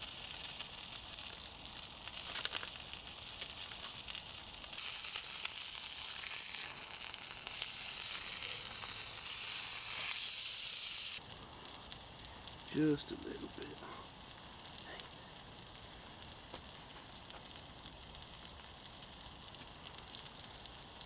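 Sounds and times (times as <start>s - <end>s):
food sizzling over campfire: 0.0s - 21.0s.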